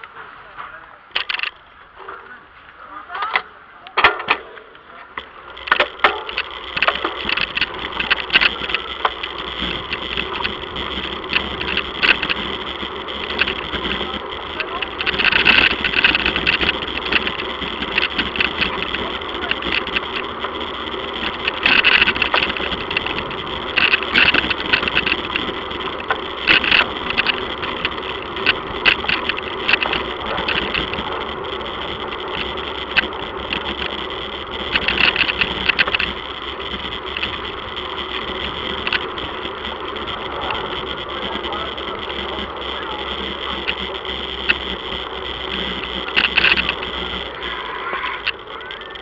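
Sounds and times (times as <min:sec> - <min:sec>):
bike rattling and clicking: 0:00.0 - 0:02.3, 0:03.1 - 0:49.0
bicycle rolling noise: 0:00.0 - 0:49.0.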